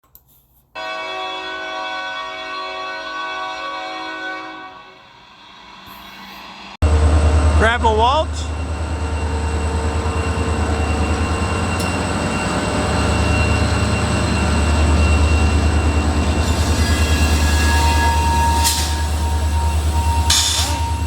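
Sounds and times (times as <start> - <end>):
wheels squealing on rails: 0.9 - 21.0
diesel locomotive engine rumble: 1.0 - 21.0.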